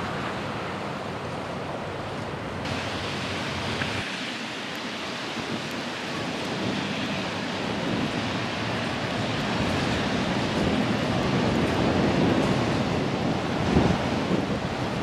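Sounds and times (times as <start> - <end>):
wind noise on microphone: 2.3 - 15.0.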